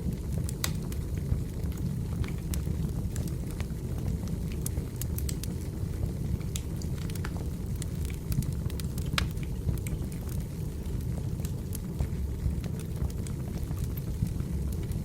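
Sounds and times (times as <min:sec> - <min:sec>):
firewood crackling and popping: 0:00.0 - 0:15.0
low rumble of flame: 0:00.0 - 0:15.0.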